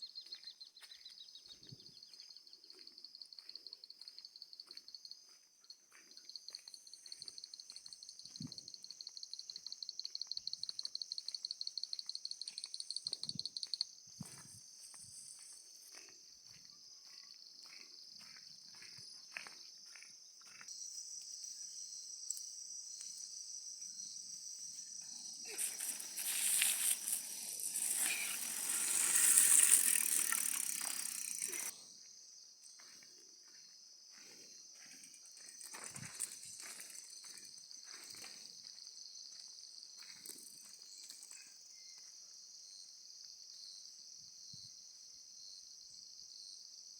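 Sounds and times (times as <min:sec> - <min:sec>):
insects chirring: 0:00.1 - 0:42.9.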